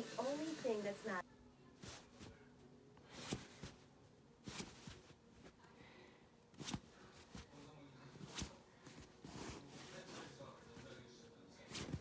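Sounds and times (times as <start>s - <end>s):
soft rustles: 1.7s - 12.0s.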